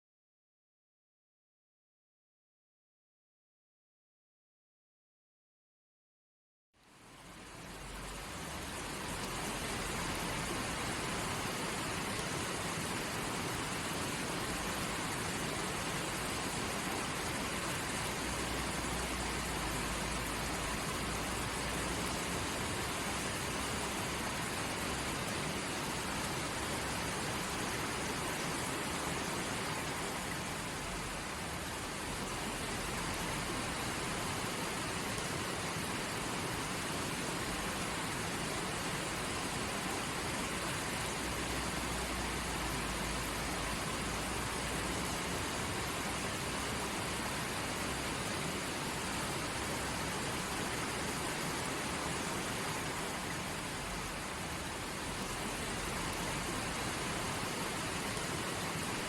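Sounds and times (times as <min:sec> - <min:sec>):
rushing river water: 0:06.8 - 0:59.0.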